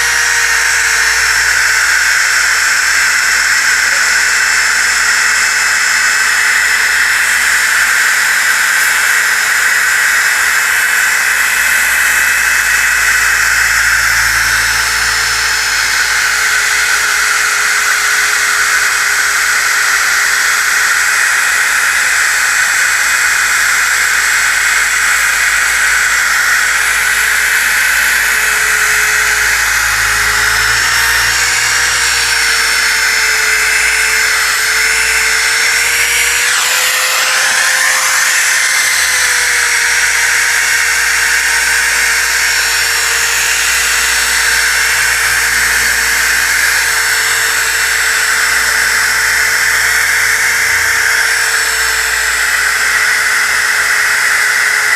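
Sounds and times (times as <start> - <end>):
disc sander on wood: 0.0 - 54.9.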